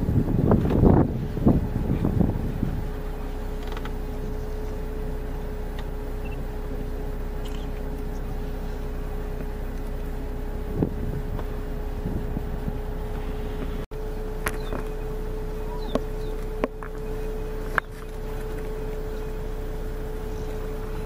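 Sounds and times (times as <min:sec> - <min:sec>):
constant hum: 0:00.0 - 0:21.0
vehicle engine idling: 0:00.0 - 0:21.0.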